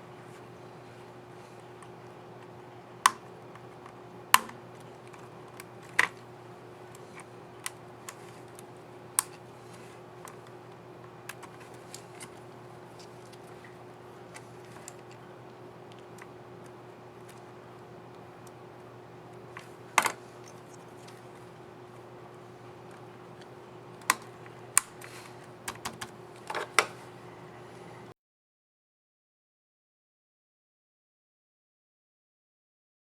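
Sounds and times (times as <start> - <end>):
faint steady hum: 0.0 - 28.1.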